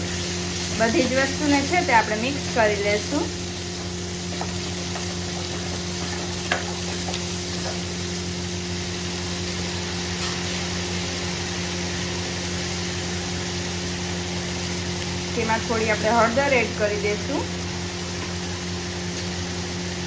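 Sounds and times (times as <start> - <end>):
food sizzling in oil: 0.0 - 20.0.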